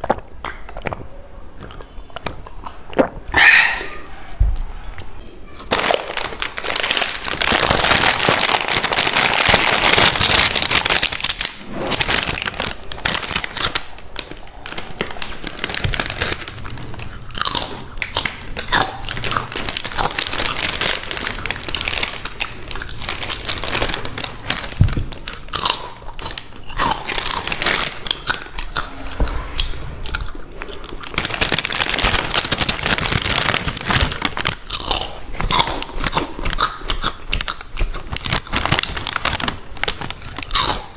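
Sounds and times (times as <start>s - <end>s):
crunching chips: 5.6s - 40.9s.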